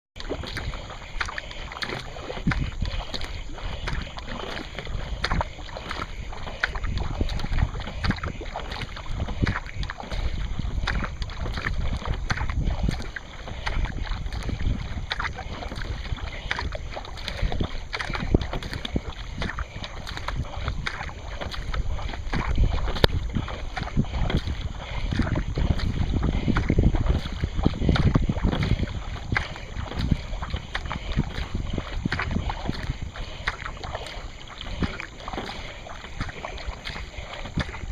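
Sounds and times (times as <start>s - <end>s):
paddle blades splashing: 0.2s - 37.9s
water rushing along boat hull: 0.2s - 37.9s
wind rumble on microphone: 0.2s - 37.9s.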